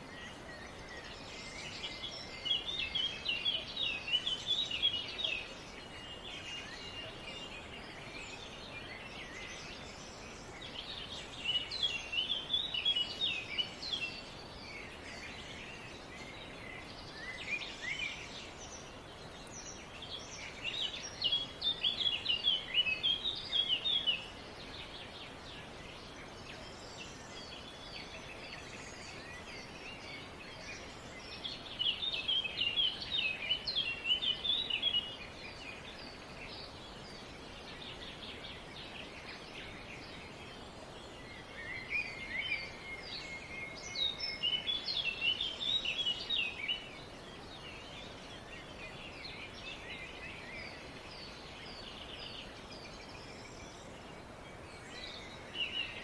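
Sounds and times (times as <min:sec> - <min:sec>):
small birds chirping: 0:00.0 - 0:56.0
steady background hiss: 0:00.0 - 0:56.0.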